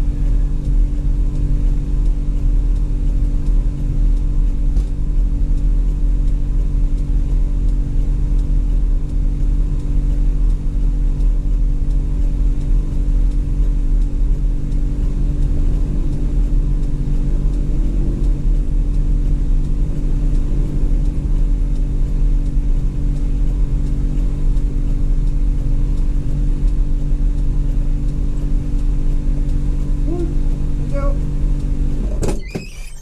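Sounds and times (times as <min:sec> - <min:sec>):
diesel truck engine running: 0:00.0 - 0:32.2.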